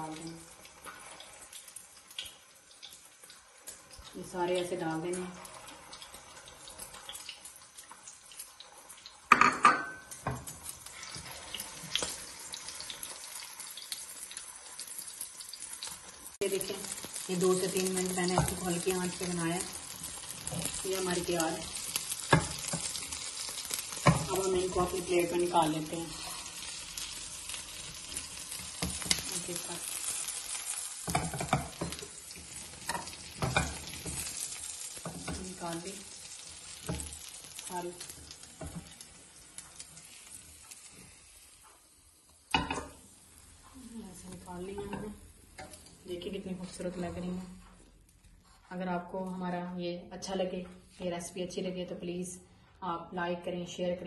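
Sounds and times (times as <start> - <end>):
patties sizzling in oil: 0.0 - 54.0.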